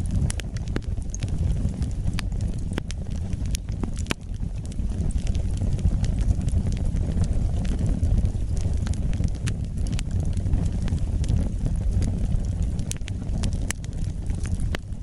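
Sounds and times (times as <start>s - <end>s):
burning wood crackling: 0.0s - 15.0s
low rush of flames: 0.0s - 15.0s.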